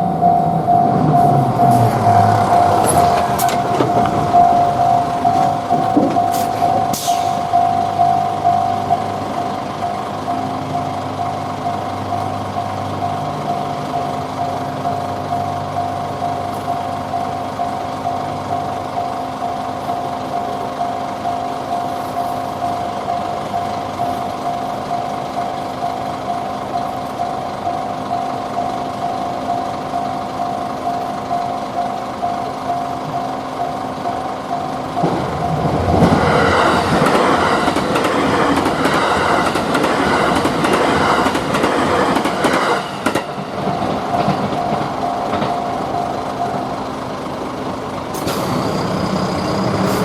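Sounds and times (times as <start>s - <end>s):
level-crossing warning bell: 0.0s - 50.0s
train low rumble: 0.0s - 50.0s.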